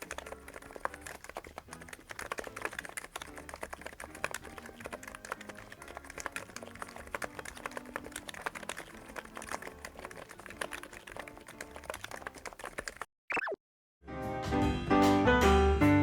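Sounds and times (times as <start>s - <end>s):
fast keyboard typing: 0.0s - 13.1s.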